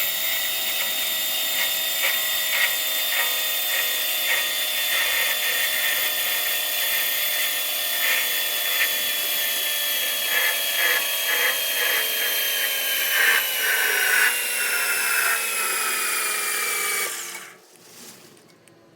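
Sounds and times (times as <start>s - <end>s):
lathe whining: 0.0s - 17.6s.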